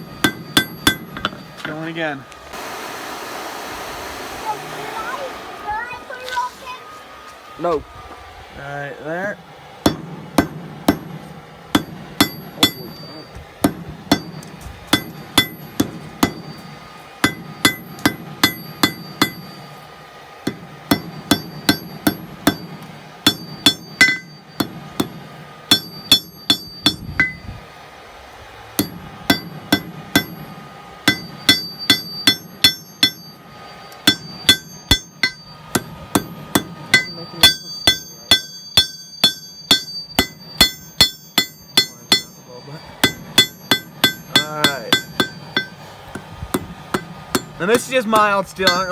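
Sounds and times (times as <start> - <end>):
hammer striking steel on anvil: 0.0 - 2.0, 9.8 - 27.6, 28.8 - 48.9
anvil ringing: 0.0 - 2.2, 9.8 - 19.8, 20.5 - 27.5, 28.8 - 48.9.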